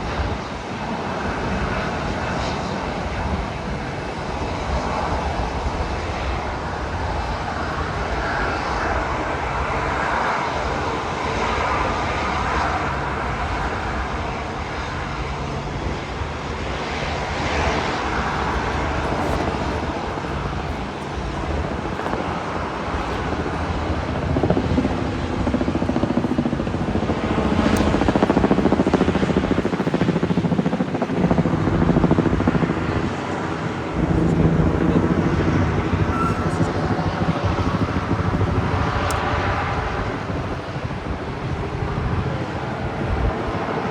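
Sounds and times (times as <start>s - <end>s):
jet airliner engines: 0.0s - 43.9s.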